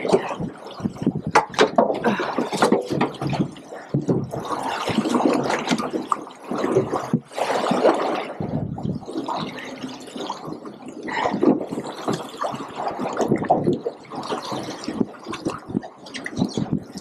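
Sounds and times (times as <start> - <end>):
water slapping boat hull: 0.0 - 17.0.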